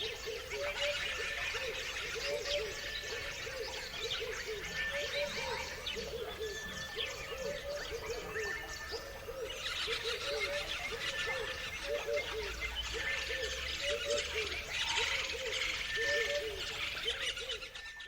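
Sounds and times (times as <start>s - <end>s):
birds chirping and whistling: 0.0s - 18.0s.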